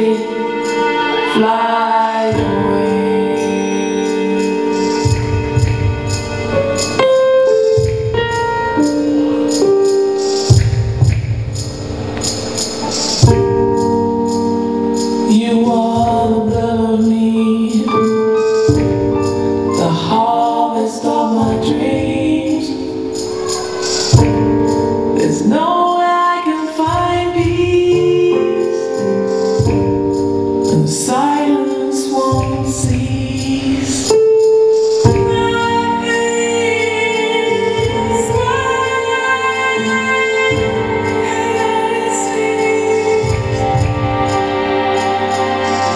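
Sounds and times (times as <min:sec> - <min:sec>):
person singing a melody: 0:00.0 - 0:10.4, 0:14.8 - 0:45.9
held instrumental chords: 0:00.0 - 0:26.3, 0:26.9 - 0:45.9
light percussion beat: 0:04.1 - 0:17.3, 0:17.9 - 0:20.6, 0:21.4 - 0:26.1, 0:26.7 - 0:45.9.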